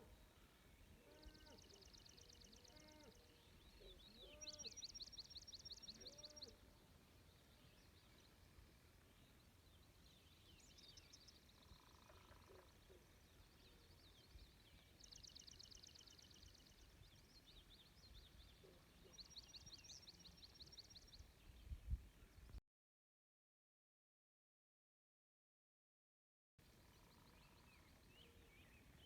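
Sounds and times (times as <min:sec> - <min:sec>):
songbird trills: 0:00.0 - 0:22.6, 0:26.7 - 0:29.0.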